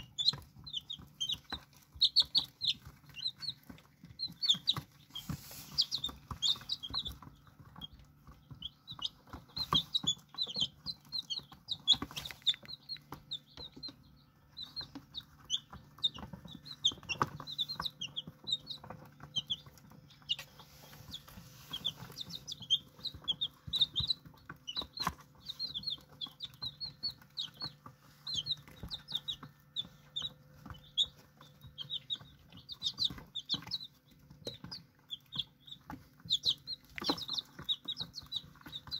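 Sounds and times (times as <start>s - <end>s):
beaks pecking the floor: 0.0s - 38.9s
chicks peeping: 0.0s - 38.9s
faint low hum: 0.0s - 38.9s.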